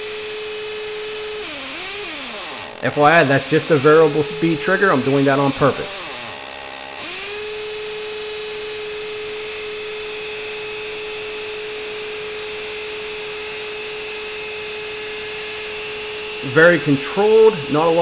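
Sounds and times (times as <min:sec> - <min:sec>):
hammer drill boring into concrete: 0:00.0 - 0:18.0.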